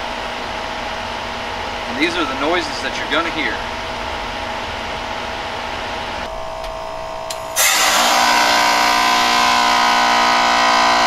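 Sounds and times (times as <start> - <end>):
compressor hum: 0.0 - 11.0
heat pump running: 0.0 - 11.0.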